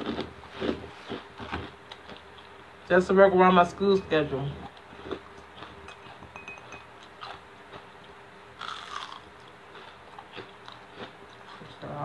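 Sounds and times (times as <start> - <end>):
food crunch: 0.0 - 2.5, 4.6 - 11.8
person chewing food: 0.0 - 2.6, 4.6 - 12.0.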